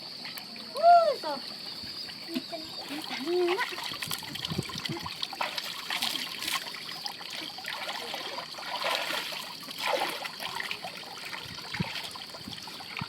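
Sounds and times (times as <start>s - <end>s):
water splashing and trickling: 0.1s - 13.0s.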